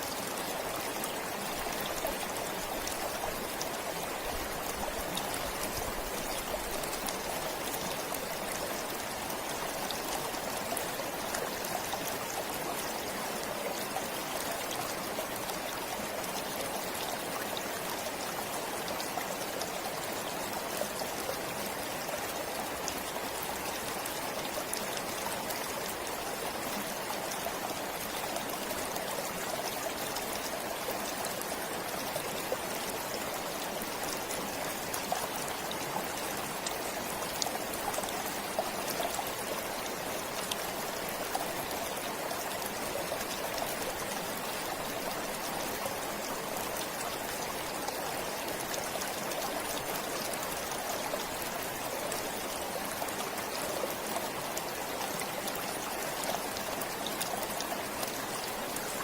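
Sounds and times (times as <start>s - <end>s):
forest stream trickling: 0.0s - 59.0s.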